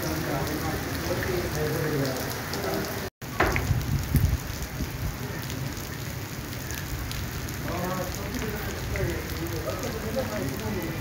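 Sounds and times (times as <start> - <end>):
rain on wet concrete: 0.0 - 11.0.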